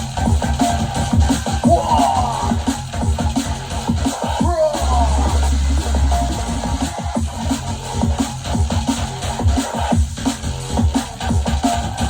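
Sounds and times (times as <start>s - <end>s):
deep sub-bass: 0.0s - 12.0s
fast breakbeat drums: 0.0s - 12.0s.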